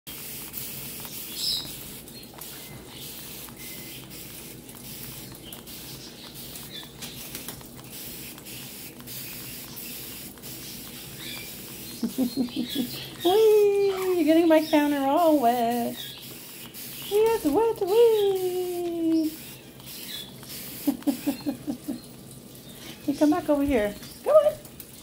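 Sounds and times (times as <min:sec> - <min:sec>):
droplets pattering: 0:00.1 - 0:25.0
parrot splashing and flapping wings: 0:00.1 - 0:25.0
tap water running into sink: 0:00.1 - 0:25.0
high bird chirps: 0:01.0 - 0:24.2.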